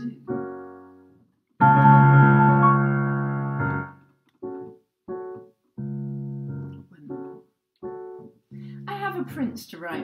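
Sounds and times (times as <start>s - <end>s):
solo piano chords: 0.0s - 9.5s.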